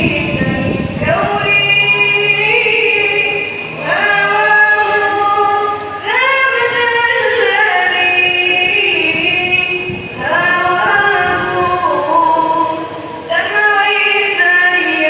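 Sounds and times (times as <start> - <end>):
high voice singing devotional song: 0.0 - 15.0.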